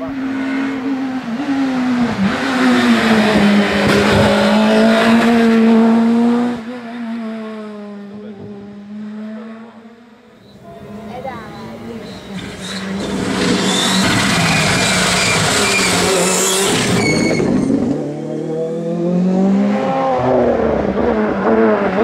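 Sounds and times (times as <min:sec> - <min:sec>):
rally car engine at full throttle: 0:00.0 - 0:22.0.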